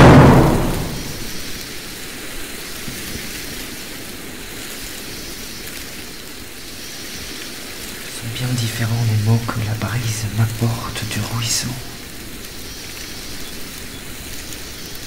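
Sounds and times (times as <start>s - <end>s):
falling water hiss: 0.0s - 15.0s.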